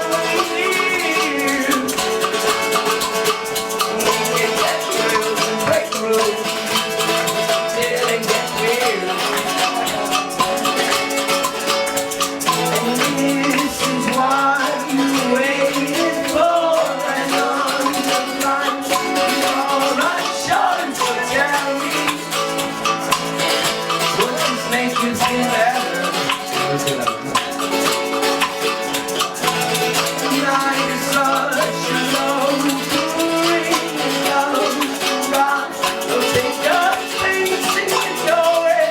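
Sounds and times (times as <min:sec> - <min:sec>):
guitar: 0:00.0 - 0:38.9
shaker rhythm: 0:00.0 - 0:38.9
wavering melody line: 0:00.0 - 0:38.9.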